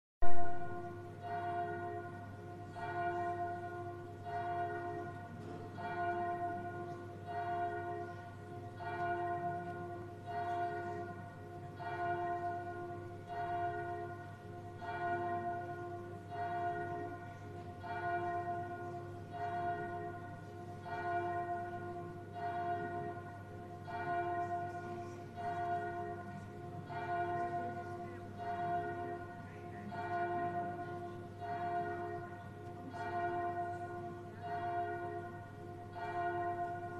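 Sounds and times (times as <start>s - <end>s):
church bell tolling: 0.2s - 36.9s.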